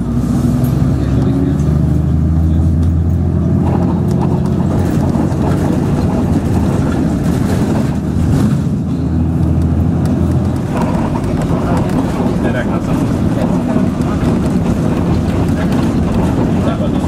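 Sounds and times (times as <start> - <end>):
bus engine humming: 0.0 - 17.0
tyre and road noise: 0.0 - 17.0.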